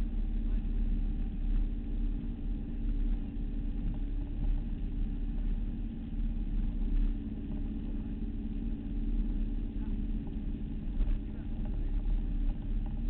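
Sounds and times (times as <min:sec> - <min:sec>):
motorboat engine drone: 0:00.0 - 0:13.0.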